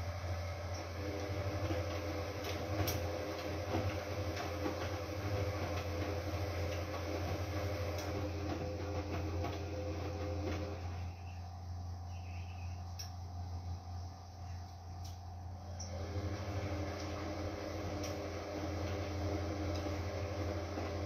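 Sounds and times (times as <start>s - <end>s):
washing machine motor whine: 0.0s - 21.0s.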